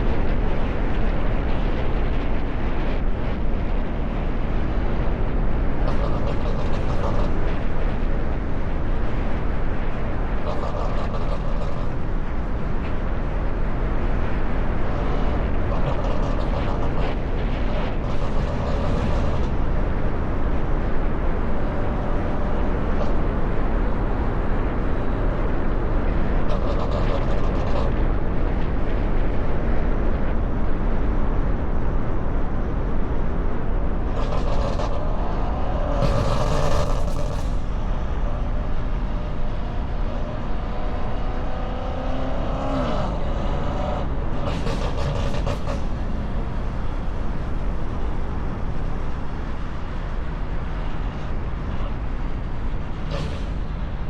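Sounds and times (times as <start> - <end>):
engine surges: 0.0 - 54.0
road rumble: 0.0 - 54.0
wind noise on camera: 0.0 - 54.0.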